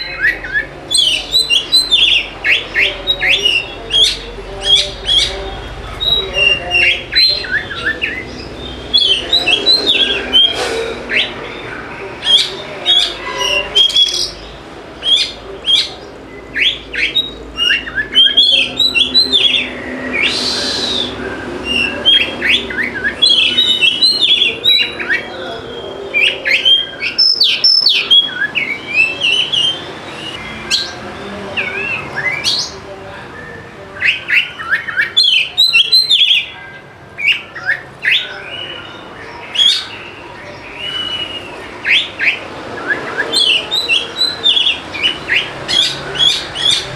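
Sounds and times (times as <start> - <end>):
bird singing whistled notes: 0.0 - 31.0, 37.2 - 46.9.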